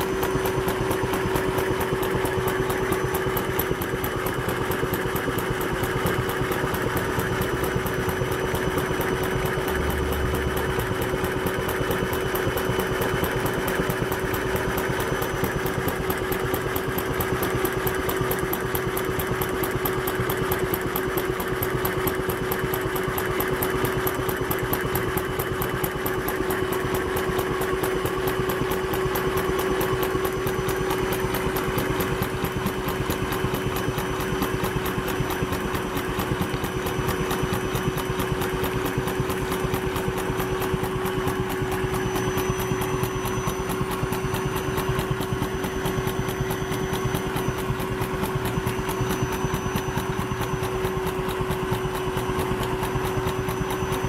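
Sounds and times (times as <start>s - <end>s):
toy engine rapid ticking: 0.0s - 54.0s
vacuum cleaner motor whine: 0.0s - 54.0s.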